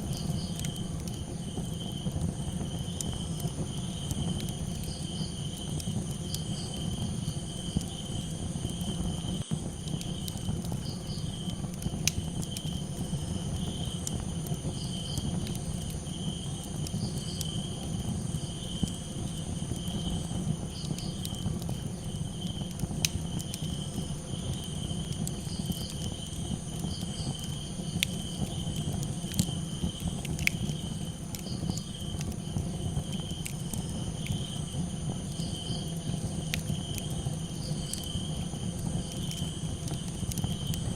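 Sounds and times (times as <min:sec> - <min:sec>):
campfire crackling: 0:00.0 - 0:40.9
crickets chirping: 0:00.0 - 0:40.9
fire popping: 0:00.0 - 0:40.9
low rumble of fire: 0:00.0 - 0:40.9.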